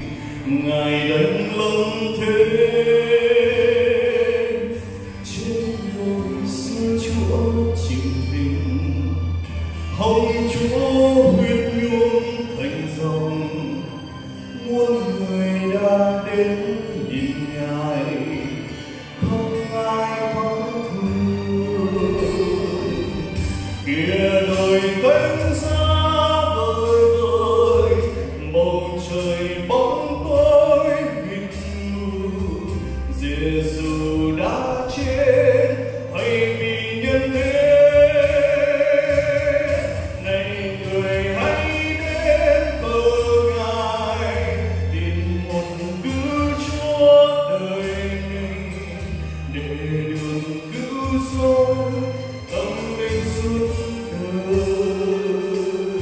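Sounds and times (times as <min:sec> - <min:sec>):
instrumental accompaniment with bass: 0:00.0 - 0:56.0
man singing into microphone: 0:00.0 - 0:56.0.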